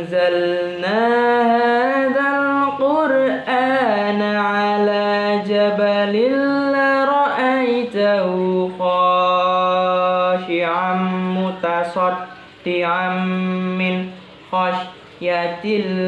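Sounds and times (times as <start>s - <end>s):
boy reciting melodically: 0.0s - 16.0s.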